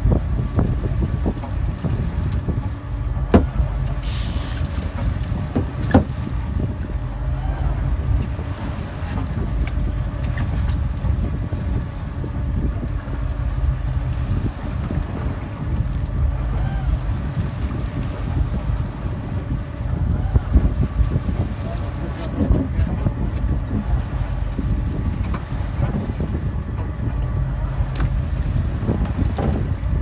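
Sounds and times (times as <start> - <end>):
boat and water noise: 0.0 - 30.0
wind rumble on microphone: 0.0 - 30.0.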